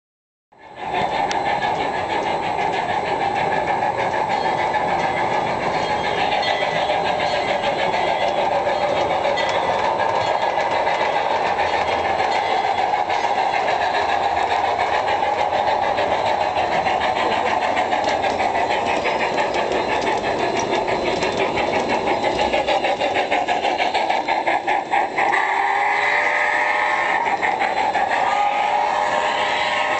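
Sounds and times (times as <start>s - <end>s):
wheels clicking on rails: 0.6s - 29.9s
model train motor whir: 0.7s - 29.9s.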